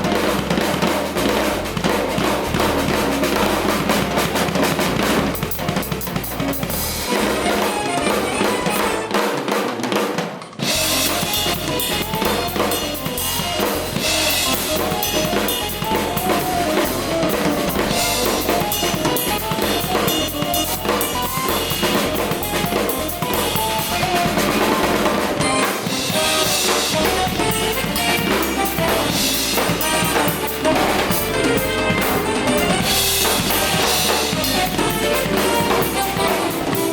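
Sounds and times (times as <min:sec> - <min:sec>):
music with drum kit: 0:00.0 - 0:36.9.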